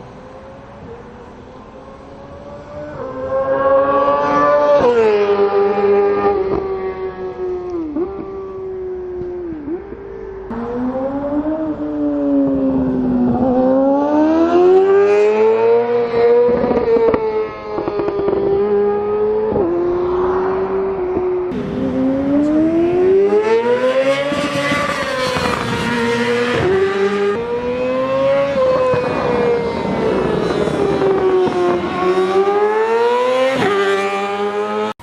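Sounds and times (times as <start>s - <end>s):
motorcycle engine revving: 1.7s - 9.9s, 10.5s - 35.0s.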